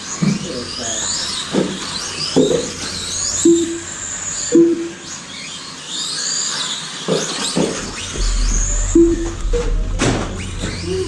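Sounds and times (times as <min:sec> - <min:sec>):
electric motors whining: 0:00.4 - 0:11.0.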